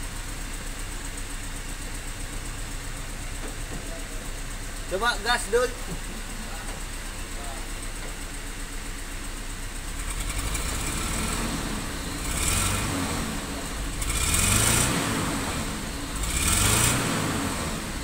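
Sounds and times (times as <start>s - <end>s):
rough engine idling and revving: 0.0s - 18.0s.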